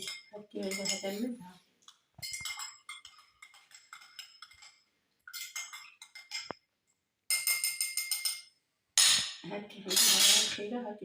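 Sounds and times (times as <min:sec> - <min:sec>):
glass clinking: 0:00.0 - 0:01.3, 0:02.2 - 0:06.6, 0:07.3 - 0:10.6.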